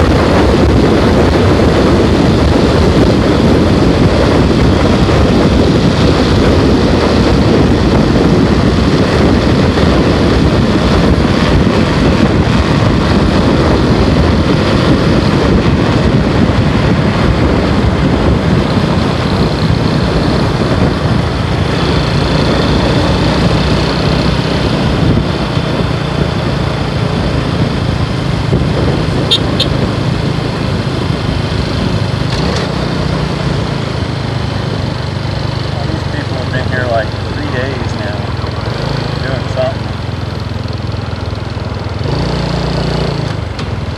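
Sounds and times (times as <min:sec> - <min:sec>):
motorcycle engine running: 0:00.0 - 0:43.9
road and wind rush: 0:00.0 - 0:43.9.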